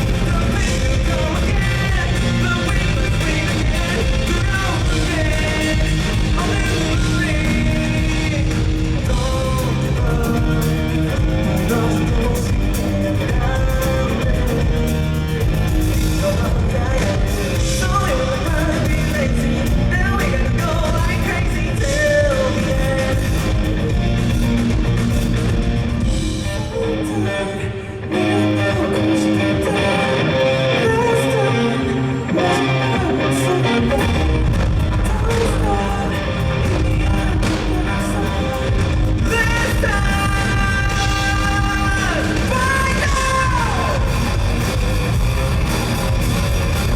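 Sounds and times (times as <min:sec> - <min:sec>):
person singing: 0:00.0 - 0:25.6, 0:26.2 - 0:44.9
rock band playing: 0:00.0 - 0:46.9.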